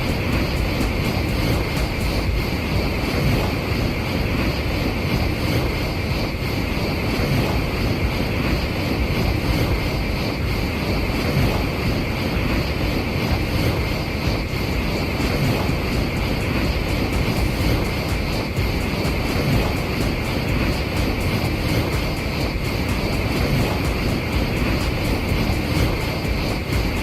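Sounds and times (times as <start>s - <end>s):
bullet train passing at speed: 0.0s - 27.0s.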